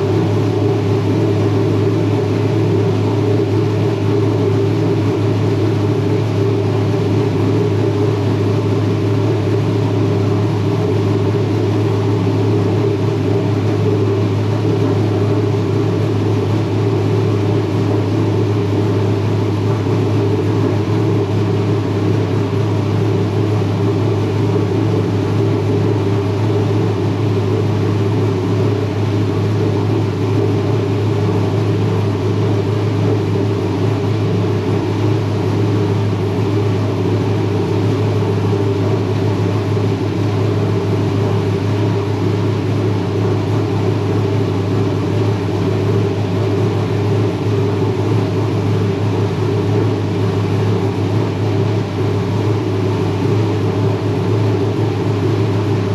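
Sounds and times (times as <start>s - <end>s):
machine drone with deep hum: 0.0s - 55.9s.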